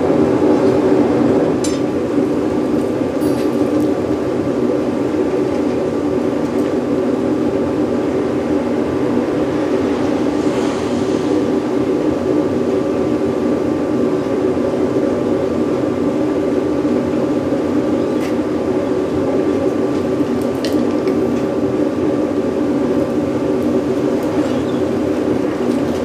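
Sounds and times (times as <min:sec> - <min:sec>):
furnace blower rushing: 0:00.0 - 0:26.0.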